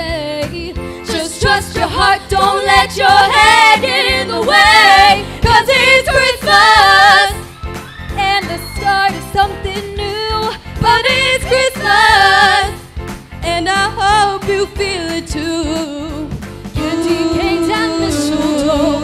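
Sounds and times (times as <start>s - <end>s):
women singing into microphones: 0.0s - 7.5s, 8.2s - 12.8s, 13.5s - 19.0s.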